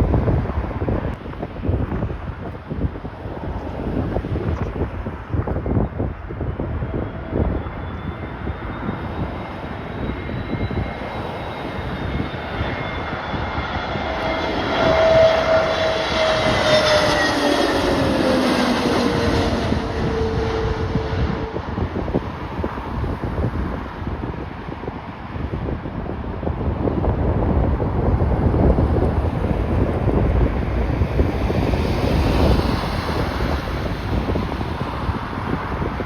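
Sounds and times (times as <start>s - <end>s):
jet airliner engines whining: 0.0s - 36.0s
wind buffeting microphone: 0.0s - 36.0s.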